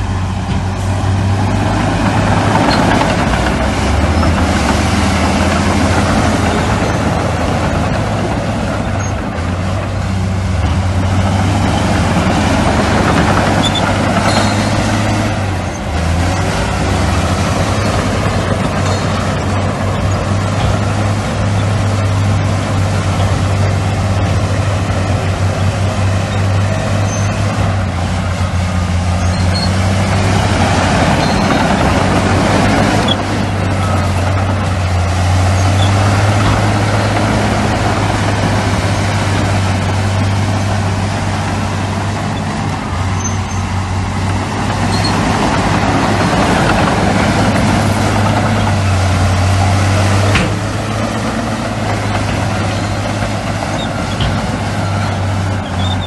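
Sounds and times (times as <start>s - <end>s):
diesel machinery engine drone: 0.0s - 56.0s
rough machinery rumble: 0.0s - 56.0s.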